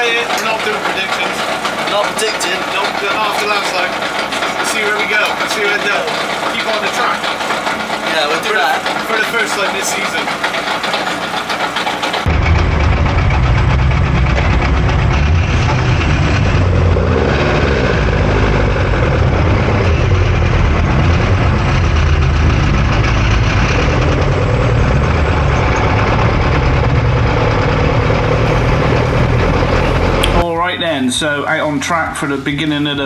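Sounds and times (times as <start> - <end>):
race car engine running: 0.0 - 33.0.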